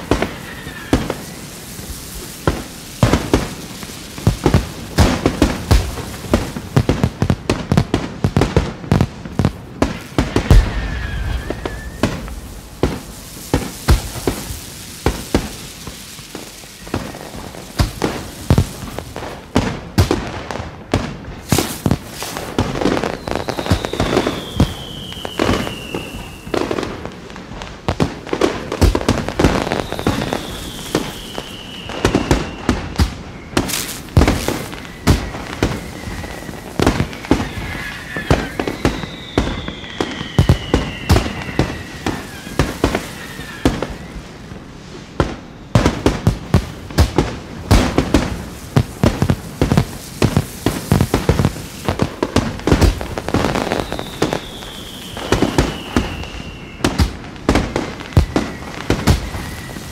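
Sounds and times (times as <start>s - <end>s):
falling firework whistles: 0.0s - 59.9s
fireworks bangs: 0.0s - 59.9s.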